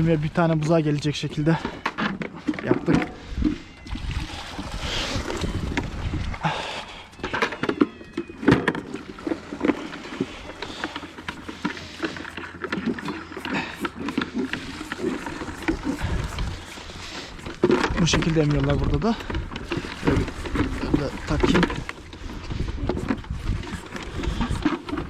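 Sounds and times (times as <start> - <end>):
buckets knocking and clattering: 0.0 - 25.0
calves sucking milk: 1.7 - 25.0.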